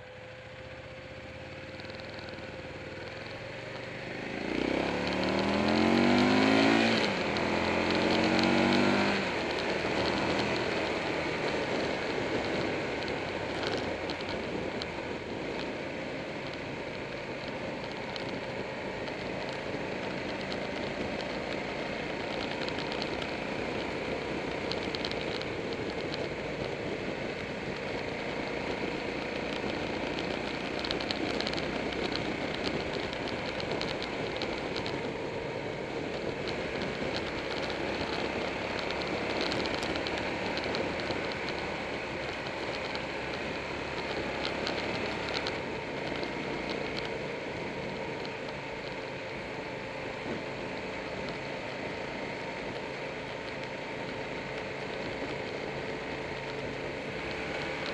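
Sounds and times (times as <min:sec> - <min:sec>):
motorcycle engine accelerating: 0:00.0 - 0:57.9
wind and road noise: 0:00.0 - 0:57.9.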